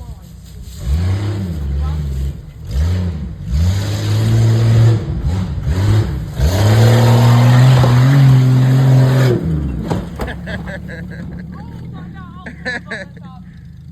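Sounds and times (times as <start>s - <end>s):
engine revving hard: 0.7s - 13.6s.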